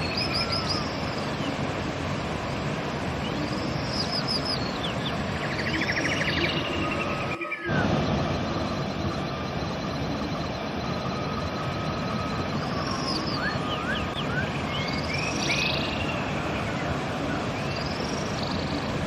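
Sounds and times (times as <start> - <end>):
river water rushing: 0.0 - 19.0
songbirds calling: 0.0 - 19.0.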